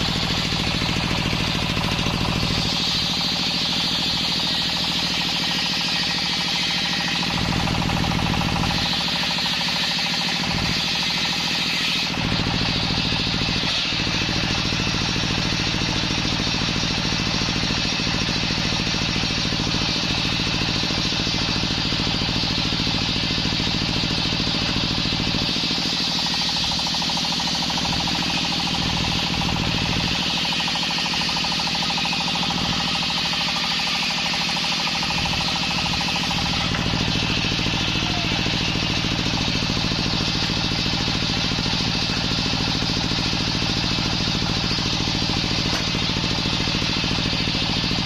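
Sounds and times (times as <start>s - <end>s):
saw blade cutting wood: 0.0s - 15.4s, 23.7s - 42.8s, 43.7s - 48.0s
engine running under load: 0.0s - 48.0s.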